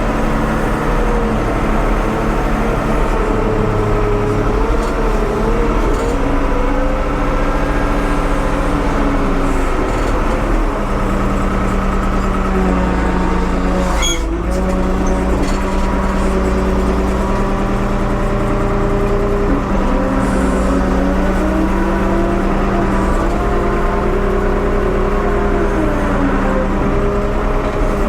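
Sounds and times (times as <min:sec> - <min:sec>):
backhoe engine working: 0:00.0 - 0:28.0.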